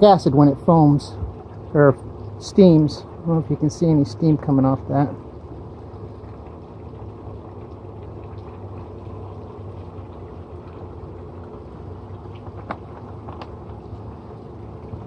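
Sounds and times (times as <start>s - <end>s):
acid fizzing and bubbling: 0.0s - 15.0s
steady low hum: 0.0s - 15.0s.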